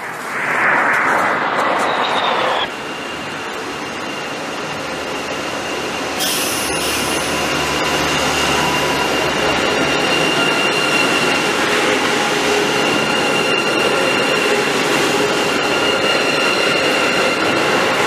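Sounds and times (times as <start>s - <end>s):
high-speed train rushing: 0.0s - 18.0s.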